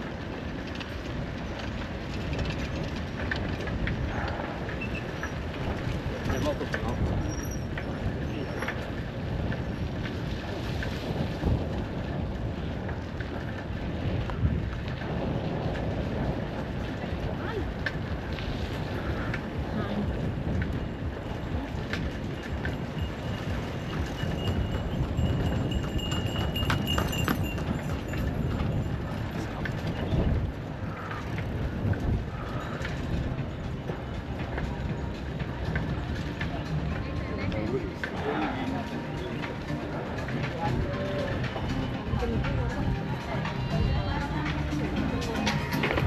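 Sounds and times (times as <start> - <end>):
bicycle rattling: 0.0 - 46.0
wind buffeting microphone: 0.0 - 46.0.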